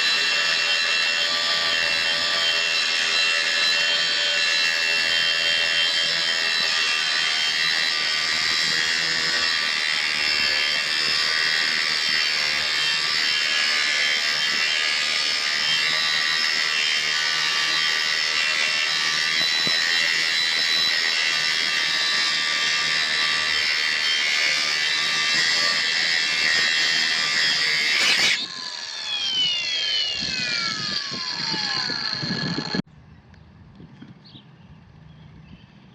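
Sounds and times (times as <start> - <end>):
angle grinder whining: 0.0 - 32.9.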